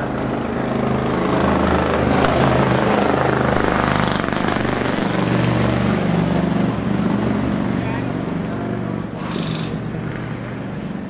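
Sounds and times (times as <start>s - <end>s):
race car engine drone: 0.0s - 11.0s.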